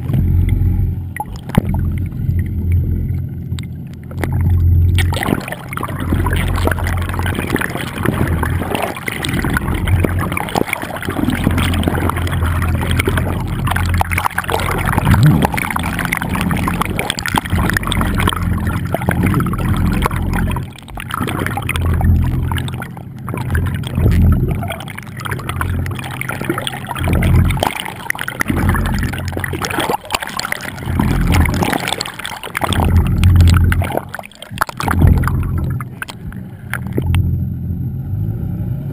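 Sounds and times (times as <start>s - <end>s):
muffled water rushing underwater: 0.0s - 37.9s
deep uneven rumble: 0.0s - 38.9s.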